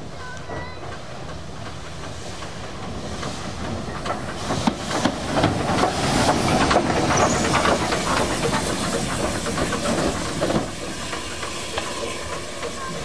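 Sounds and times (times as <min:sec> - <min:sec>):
steam hissing: 0:00.0 - 0:13.0
steam locomotive chuffing: 0:00.0 - 0:13.0
running gear clanking on rails: 0:00.2 - 0:13.0.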